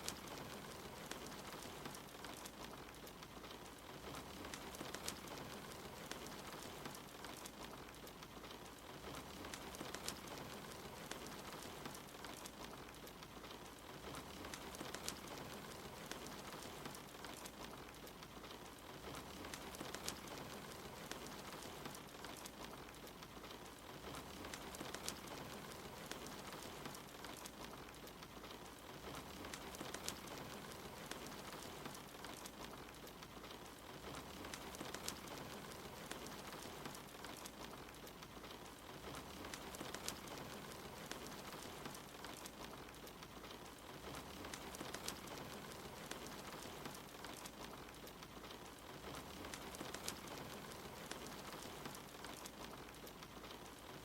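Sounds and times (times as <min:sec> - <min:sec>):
soft rain: 0:00.0 - 0:54.0
wood fire crackling: 0:00.0 - 0:54.0.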